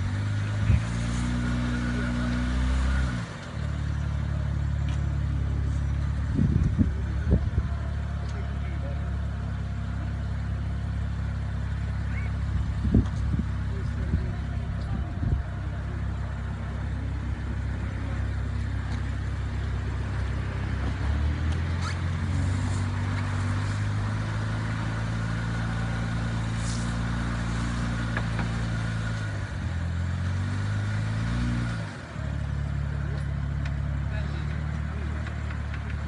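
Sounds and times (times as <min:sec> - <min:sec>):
car engine pulling under load: 0:00.0 - 0:36.0.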